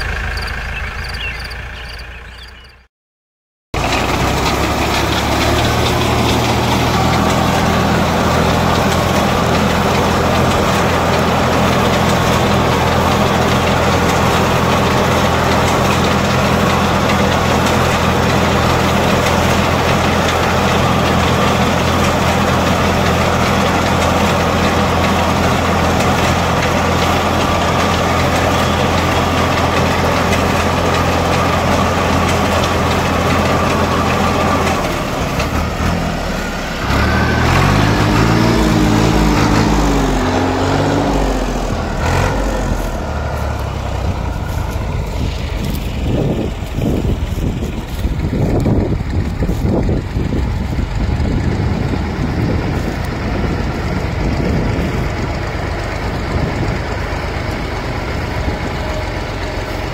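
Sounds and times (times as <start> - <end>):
tractor diesel engine running: 0.0 - 2.9, 3.7 - 59.9.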